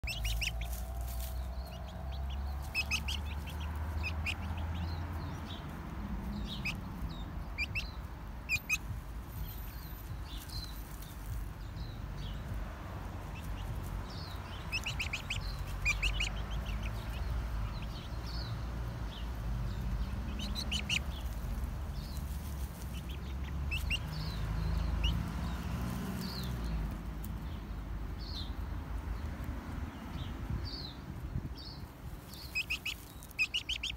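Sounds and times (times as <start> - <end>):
chicks peeping: 0.0 - 33.9
rustling in dry leaves: 0.0 - 33.9
steady low rumble: 0.0 - 33.9.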